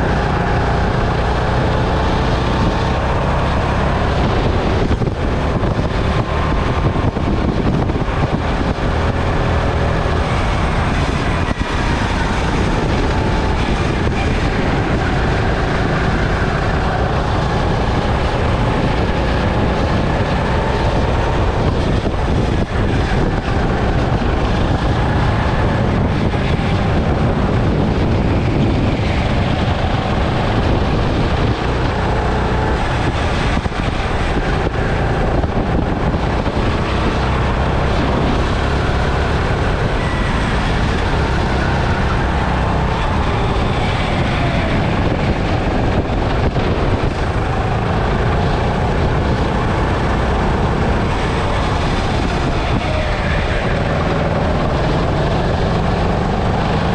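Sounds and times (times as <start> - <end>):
go-kart engine running: 0.0 - 56.9.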